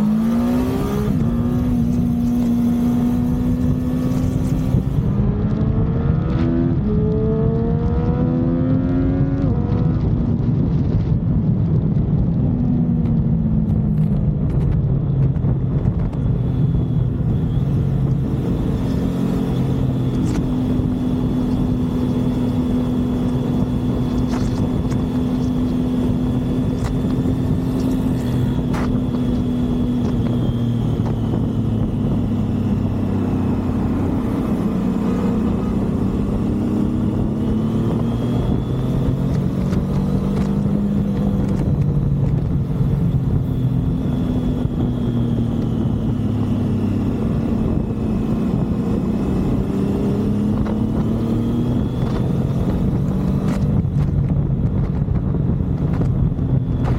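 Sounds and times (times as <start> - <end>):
motorcycle engine cruising: 0.0 - 56.9
wind and road rush: 0.0 - 56.9.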